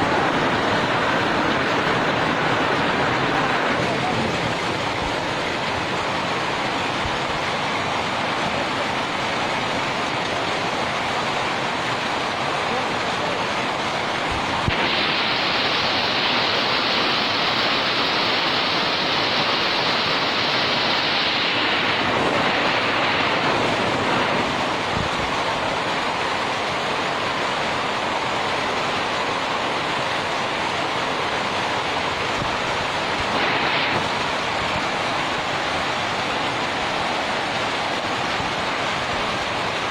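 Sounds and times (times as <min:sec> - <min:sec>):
hail and heavy rain: 0:00.0 - 0:39.9.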